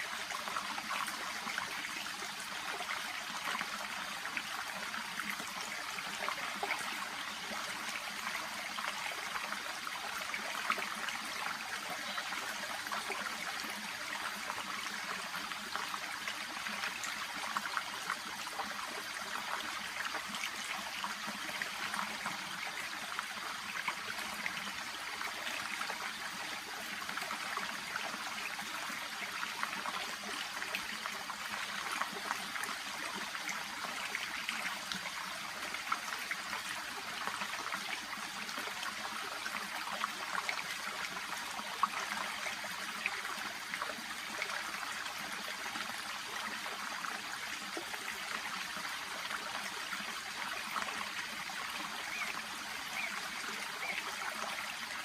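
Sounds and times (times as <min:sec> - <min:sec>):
brook babbling and trickling: 0:00.0 - 0:55.0.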